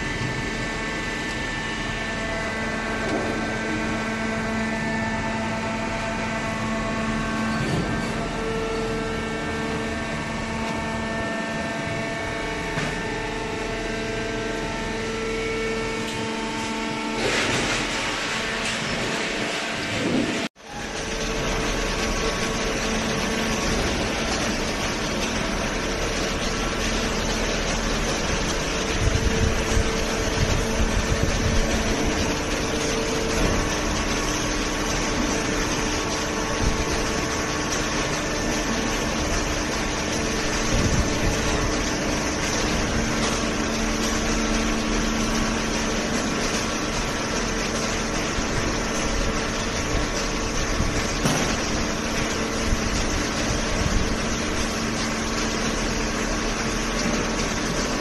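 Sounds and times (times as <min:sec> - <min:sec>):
hydraulic baler machine hum: 0:00.0 - 0:58.0.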